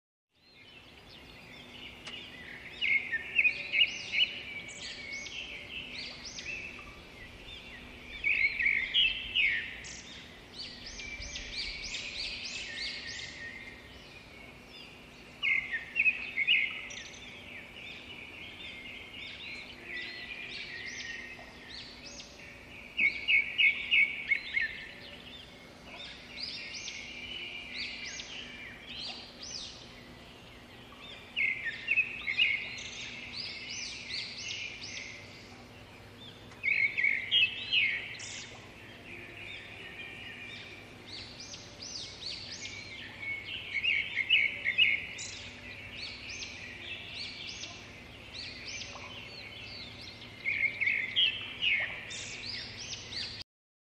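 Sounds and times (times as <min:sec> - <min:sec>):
birds singing and chirping: 0:00.4 - 0:53.4.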